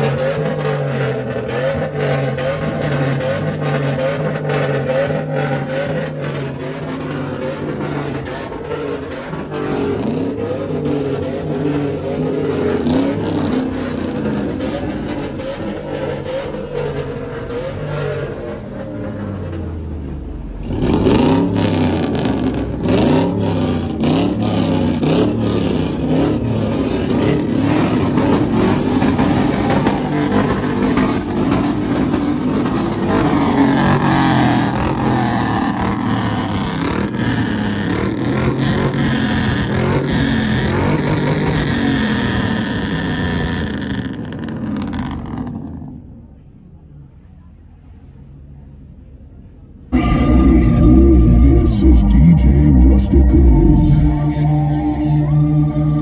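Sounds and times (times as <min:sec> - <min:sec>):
vehicle engine revving: 0:00.0 - 0:47.2, 0:47.8 - 0:56.0.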